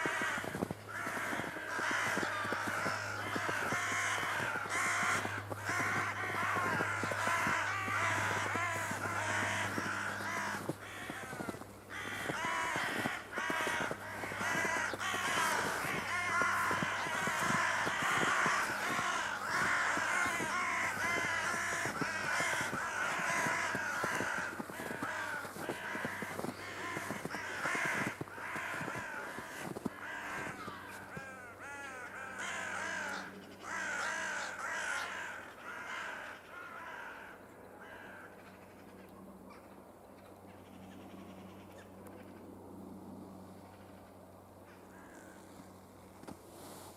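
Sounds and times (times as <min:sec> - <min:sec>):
crows cawing: 0:00.0 - 0:39.7, 0:44.7 - 0:45.8.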